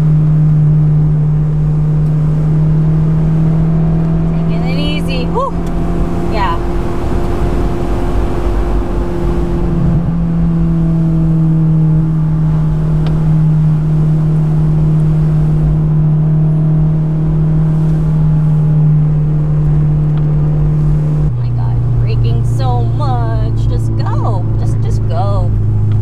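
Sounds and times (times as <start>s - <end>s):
car engine and exhaust running: 0.0s - 26.0s.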